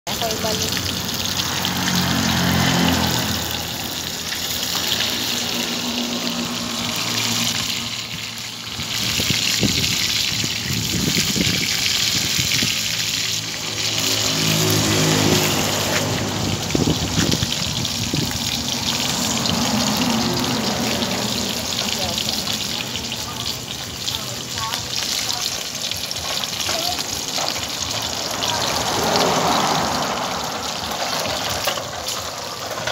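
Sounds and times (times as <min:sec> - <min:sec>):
fish sizzling in hot oil: 0:00.1 - 0:32.9.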